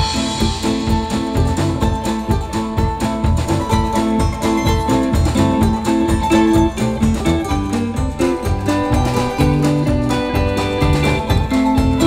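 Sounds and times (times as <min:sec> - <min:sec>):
folk band playing: 0:00.0 - 0:12.0.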